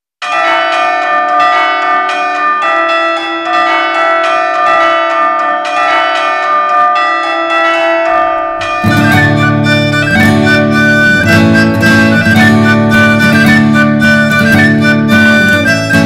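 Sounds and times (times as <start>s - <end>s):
church bells pealing: 0.2s - 16.0s.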